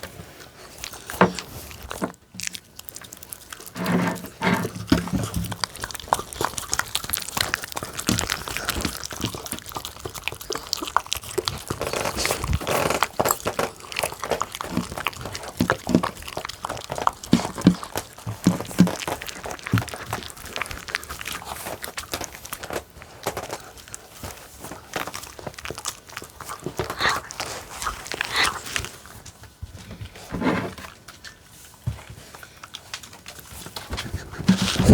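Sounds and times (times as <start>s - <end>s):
dog chewing and licking: 0.0s - 34.9s.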